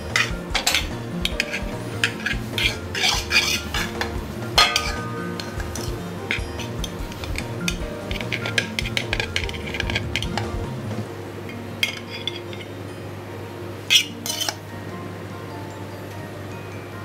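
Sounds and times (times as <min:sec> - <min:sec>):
dishes and utensils clinking: 0:00.0 - 0:13.2, 0:13.8 - 0:14.7.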